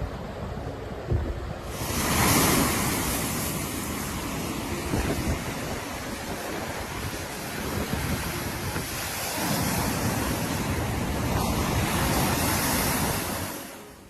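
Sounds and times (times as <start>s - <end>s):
wind buffeting microphone: 0.0s - 13.6s
storm waves surging: 0.0s - 14.0s.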